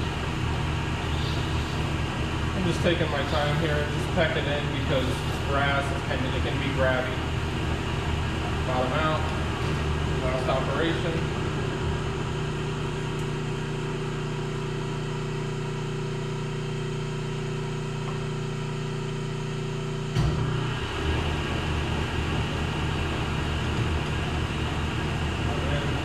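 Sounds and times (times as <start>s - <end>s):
lathe humming: 0.0s - 26.0s.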